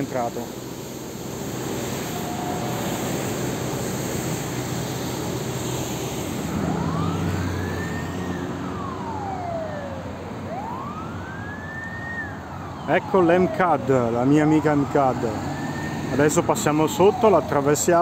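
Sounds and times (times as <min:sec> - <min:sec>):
emergency siren wailing: 0:00.0 - 0:18.0
heavy motorway traffic: 0:00.0 - 0:18.0.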